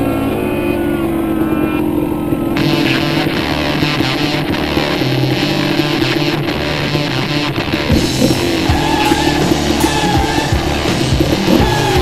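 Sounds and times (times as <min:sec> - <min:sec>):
electric guitar music: 0:00.0 - 0:12.0
two-stroke dirt bike engine: 0:00.0 - 0:12.0.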